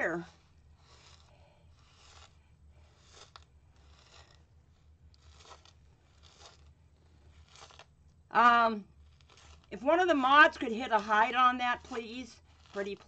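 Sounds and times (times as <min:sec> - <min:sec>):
stir stick scraping wet sand: 0:00.0 - 0:13.0.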